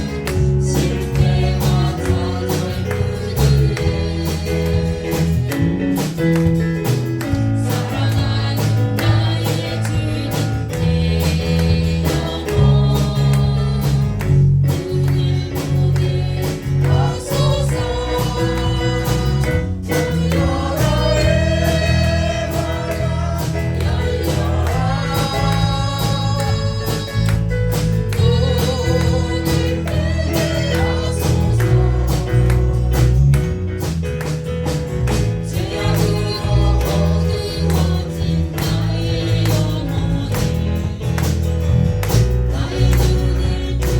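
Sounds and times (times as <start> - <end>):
bass guitar: 0.0 - 43.9
guitar: 0.0 - 43.9.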